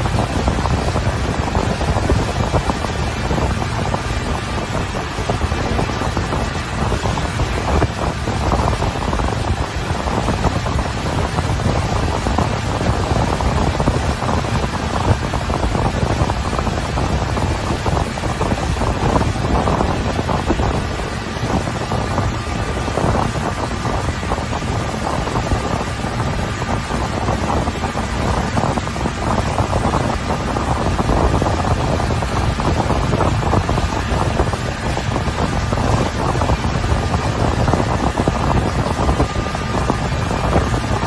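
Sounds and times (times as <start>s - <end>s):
boat and water noise: 0.0s - 41.0s
wind buffeting microphone: 0.0s - 41.0s.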